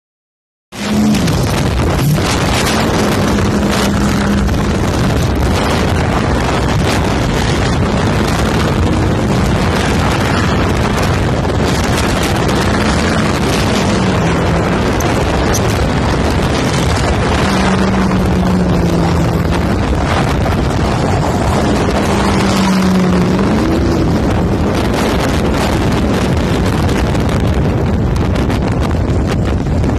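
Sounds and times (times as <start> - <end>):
pickup truck engine revving: 0.8 - 28.5
wind buffeting microphone: 0.8 - 29.9.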